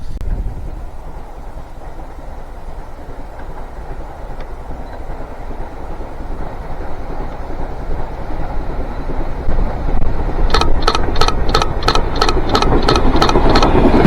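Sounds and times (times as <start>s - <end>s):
steam train rumble: 0.0s - 14.0s.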